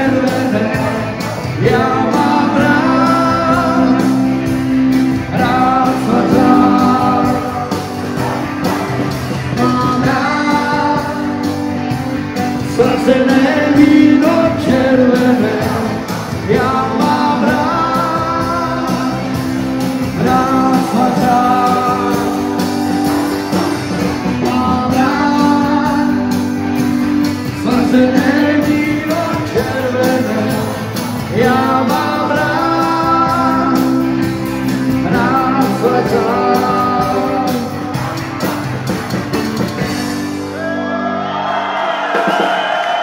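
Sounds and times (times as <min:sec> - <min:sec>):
rock band with singing: 0:00.0 - 0:43.0.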